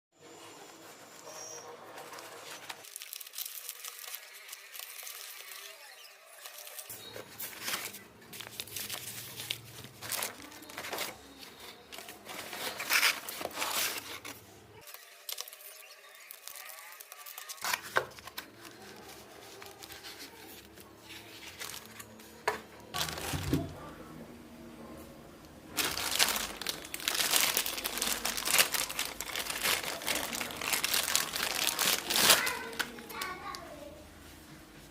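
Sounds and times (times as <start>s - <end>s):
plastic and cardboard crinkling: 0.9s - 23.9s, 25.7s - 33.8s.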